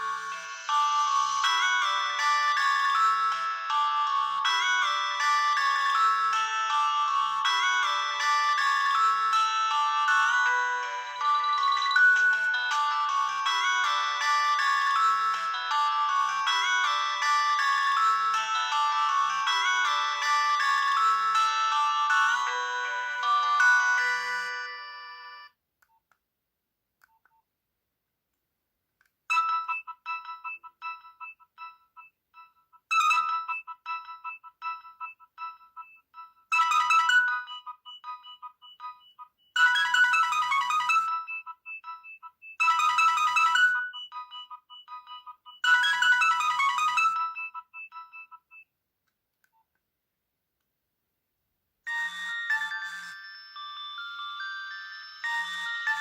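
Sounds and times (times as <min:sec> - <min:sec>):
beeping ringtone: 0:00.0 - 0:25.5, 0:29.3 - 0:48.7, 0:51.9 - 0:56.0
chiming ringtone melody: 0:00.0 - 0:25.6, 0:29.3 - 0:48.7, 0:51.9 - 0:56.0.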